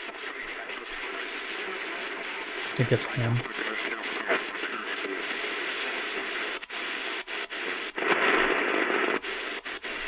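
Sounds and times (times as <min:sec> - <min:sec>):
radio static and hiss: 0:00.0 - 0:10.0.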